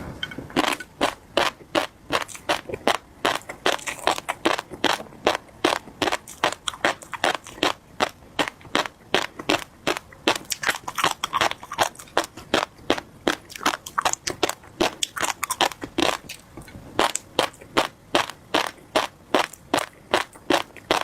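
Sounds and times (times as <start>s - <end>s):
fish roe popping while chewing: 0.6s - 21.0s.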